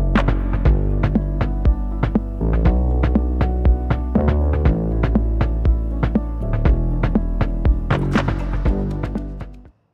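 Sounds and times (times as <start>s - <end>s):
deep bass line: 0.0s - 9.6s.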